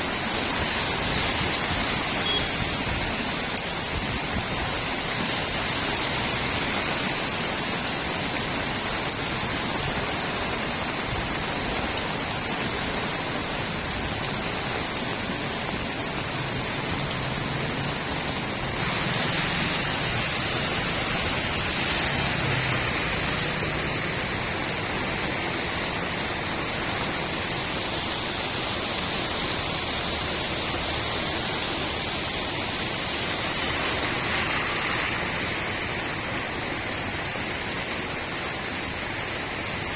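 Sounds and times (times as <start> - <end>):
steady rain on a street: 0.0 - 39.9.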